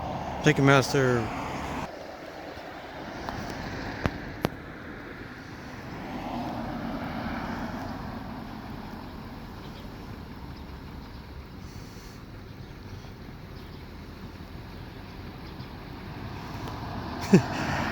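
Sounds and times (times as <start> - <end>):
street traffic: 0.0 - 17.9
vehicle passing: 0.0 - 17.9.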